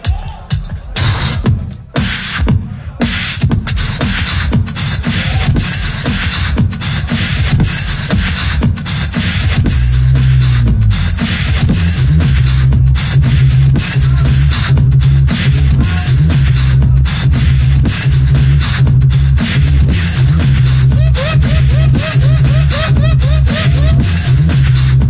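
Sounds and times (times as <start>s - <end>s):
beatboxed deep bass line: 0.0s - 25.0s
beatboxing drum sounds: 0.0s - 25.0s.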